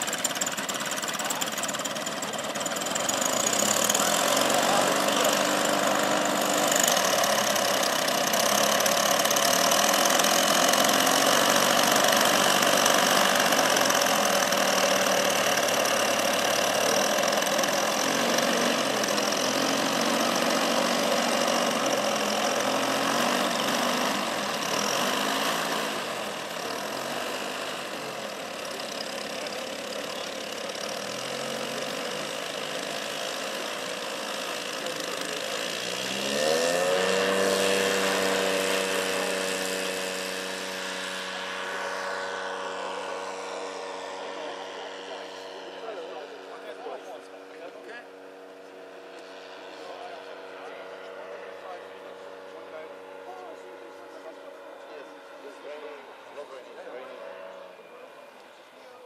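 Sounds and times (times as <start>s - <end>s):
model plane engine idling: 0.0s - 59.0s.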